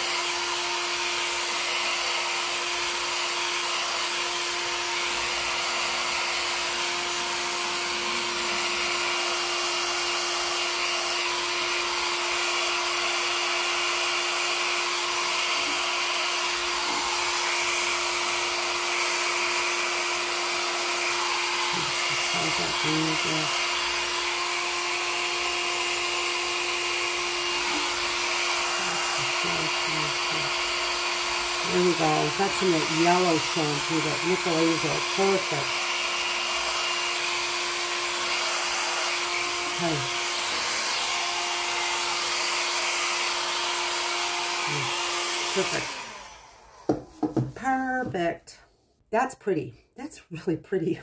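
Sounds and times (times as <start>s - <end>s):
hair dryer blowing: 0.0s - 48.1s.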